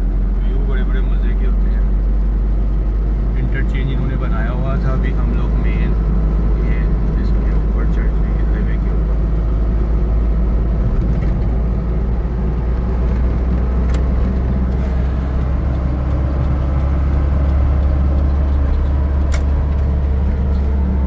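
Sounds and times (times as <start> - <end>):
truck engine and road drone: 0.0 - 21.0.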